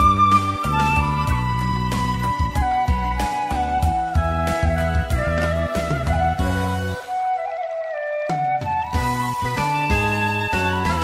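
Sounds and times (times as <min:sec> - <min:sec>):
backing music accompaniment: 0:00.0 - 0:11.0
bamboo flute playing: 0:00.0 - 0:11.0.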